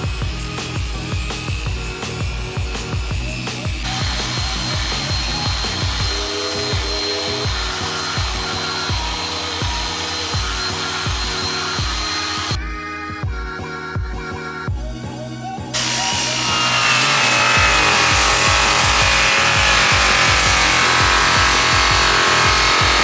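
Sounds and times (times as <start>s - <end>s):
rotary polisher motor whining: 0.0s - 12.6s, 15.8s - 23.0s
background music with steady beat: 0.0s - 23.0s.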